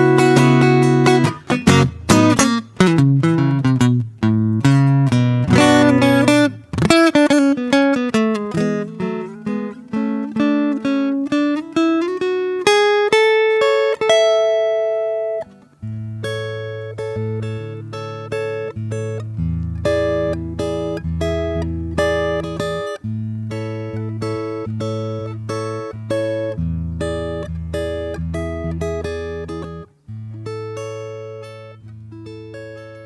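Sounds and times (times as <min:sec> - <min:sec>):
acoustic guitar picking: 0:00.0 - 0:33.0.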